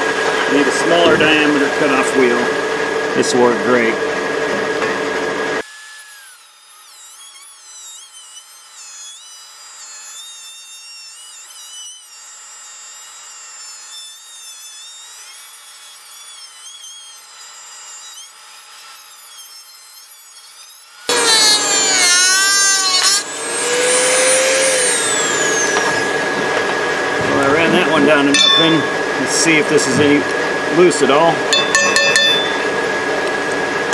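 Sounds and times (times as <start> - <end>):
rotary tool grinding metal: 5.6 - 32.8.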